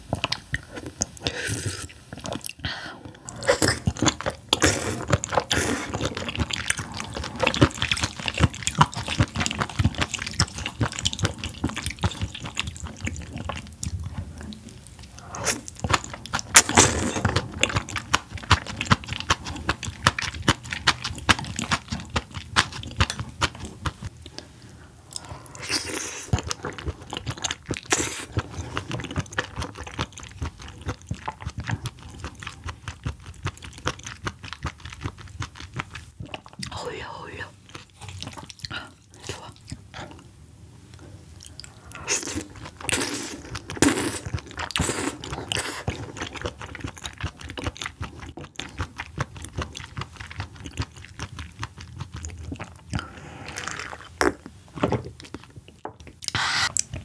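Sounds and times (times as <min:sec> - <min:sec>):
wet chewing and lip-smacking: 0:00.0 - 0:40.3, 0:40.9 - 0:57.0.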